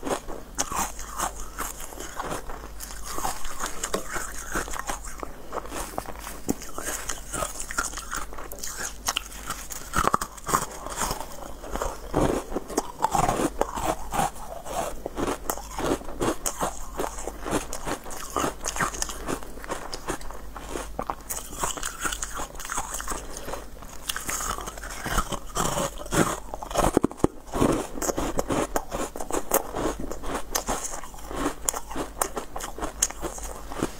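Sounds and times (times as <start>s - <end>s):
crunchy chewing of hard treats: 0.0s - 33.9s.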